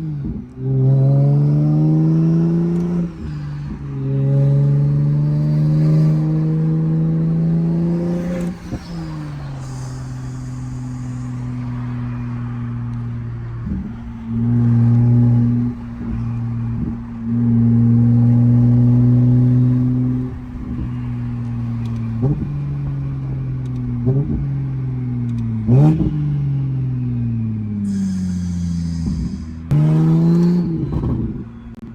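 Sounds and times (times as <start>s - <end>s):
car engine accelerating hard: 0.0s - 31.9s.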